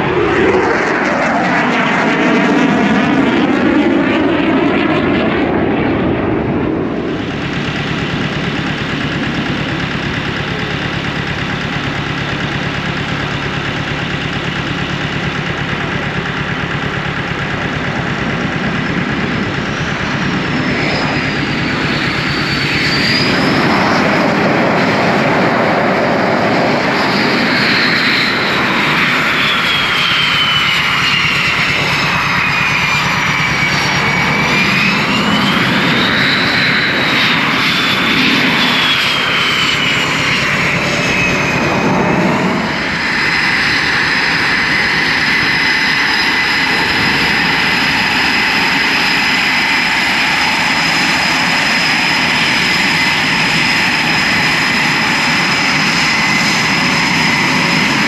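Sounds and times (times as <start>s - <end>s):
jet engines whining: 0.0s - 58.0s
jet rush: 0.0s - 58.0s.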